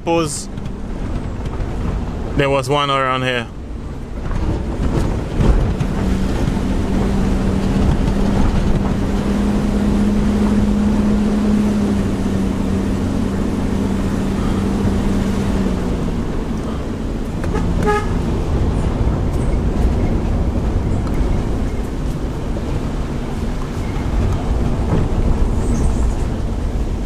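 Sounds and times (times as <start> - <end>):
car engine hum: 0.0 - 27.0
road and wind noise: 0.0 - 27.0.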